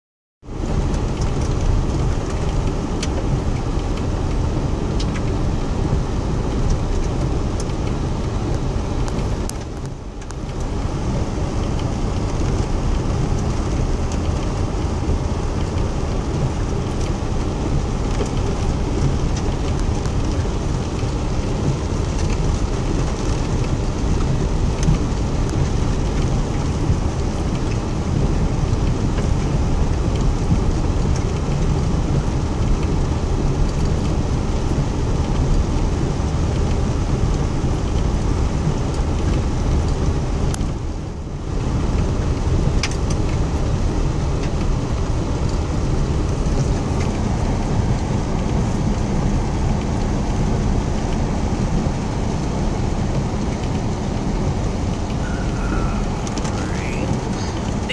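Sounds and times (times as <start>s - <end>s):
rain on a car: 0.4s - 57.9s
truck low rumble: 0.4s - 57.9s.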